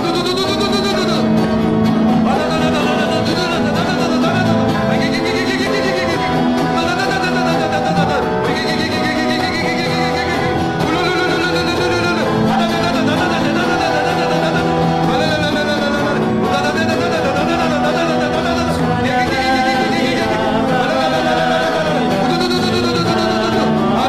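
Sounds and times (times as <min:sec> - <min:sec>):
voices praying in repeated syllables: 0:00.0 - 0:24.0.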